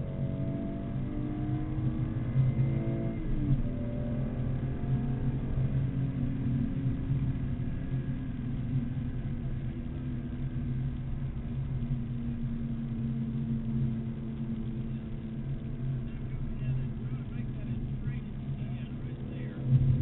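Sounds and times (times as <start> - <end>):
car engine running at speed: 0.0 - 20.0
road and wind noise: 0.0 - 20.0.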